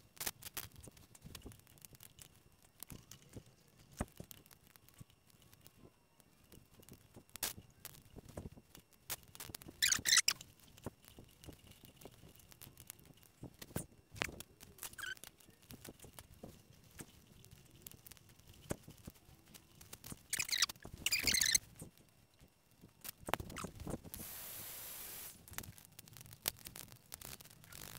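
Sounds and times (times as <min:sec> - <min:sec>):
hissy plastic rustles: 0:00.0 - 0:27.9.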